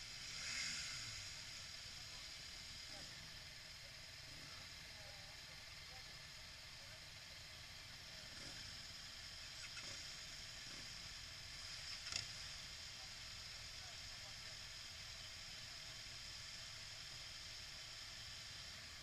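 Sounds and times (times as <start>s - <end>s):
muffled motorcycle engine: 0.0s - 19.0s.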